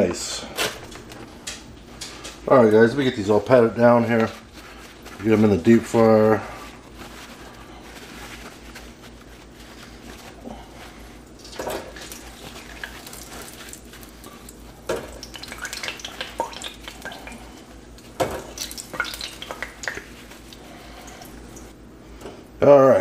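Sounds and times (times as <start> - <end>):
paper towels rustling and crinkling: 0.4 - 21.8.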